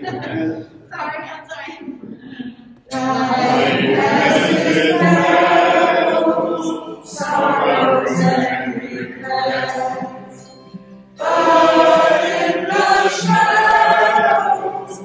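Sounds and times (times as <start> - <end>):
group singing a hymn: 2.9 - 15.0.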